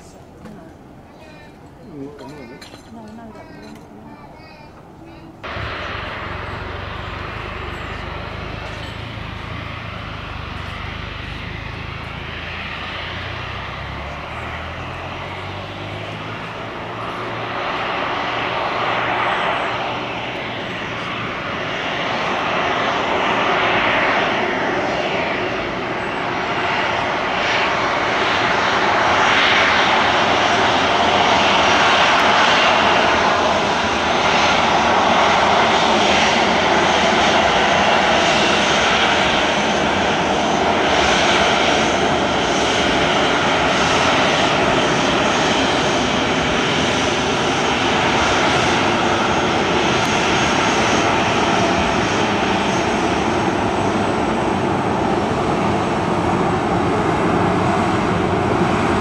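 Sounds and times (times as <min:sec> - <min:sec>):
jet engines at taxi power: 0:00.0 - 0:59.0.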